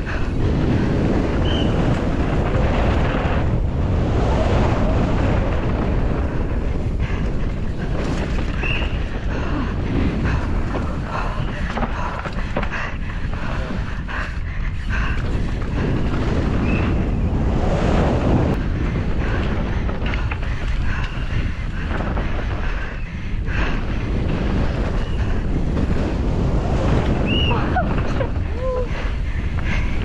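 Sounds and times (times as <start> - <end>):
wind roaring over microphone: 0.0 - 30.0.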